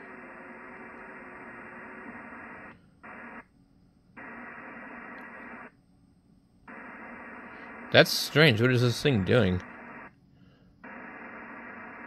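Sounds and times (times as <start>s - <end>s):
radio receiver hiss: 0.0s - 3.5s, 4.1s - 5.8s, 6.7s - 10.2s, 10.8s - 12.0s
faint steady tone: 0.0s - 12.0s.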